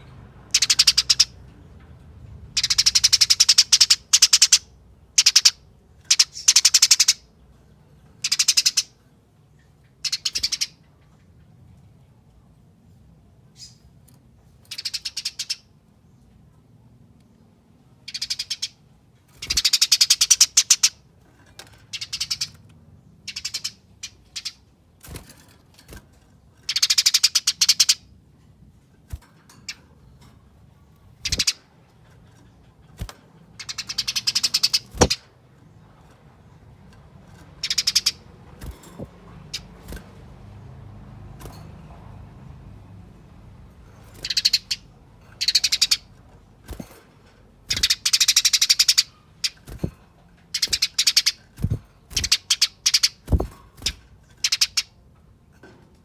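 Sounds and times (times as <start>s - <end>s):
sparrow rattling chatter: 0.4s - 1.7s, 2.5s - 7.3s, 8.1s - 9.0s, 9.9s - 11.0s, 14.7s - 15.7s, 18.0s - 28.1s, 29.0s - 55.0s.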